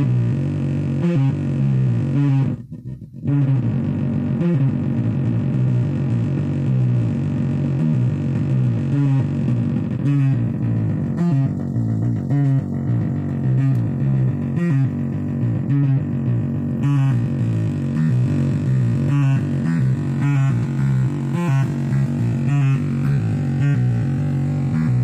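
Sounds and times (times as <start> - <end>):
distorted synthesizer sequence: 0.0 - 25.0.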